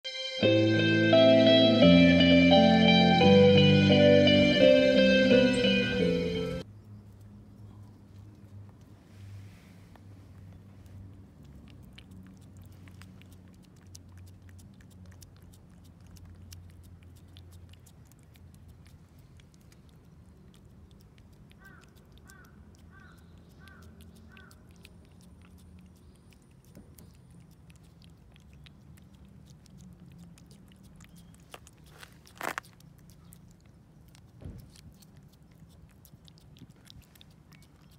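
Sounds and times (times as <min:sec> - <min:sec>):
cat licking: 0:07.1 - 0:37.9.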